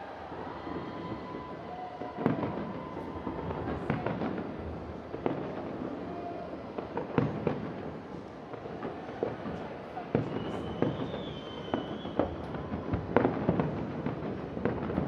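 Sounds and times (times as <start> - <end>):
fireworks bangs: 0.0 - 15.0
distant fireworks rumble: 0.3 - 15.0.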